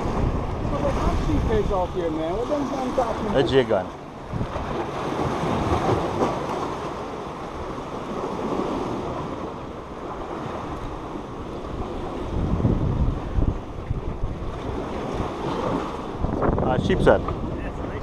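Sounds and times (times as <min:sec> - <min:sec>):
surf washing against rocks: 0:00.0 - 0:18.0
wind buffeting microphone: 0:00.0 - 0:18.0.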